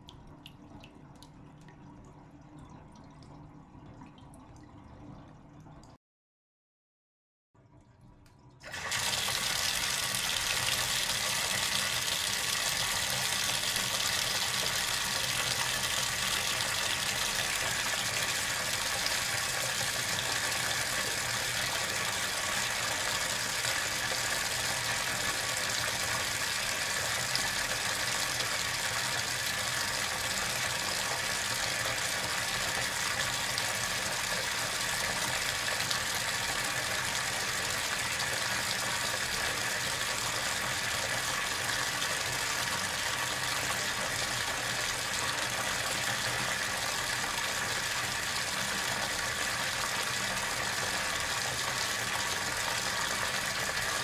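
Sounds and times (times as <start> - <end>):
faucet water pouring into tub: 8.4 - 54.0.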